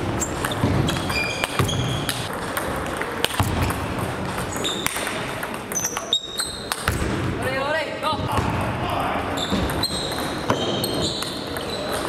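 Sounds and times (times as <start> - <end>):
busy sports hall din: 0.0 - 12.0.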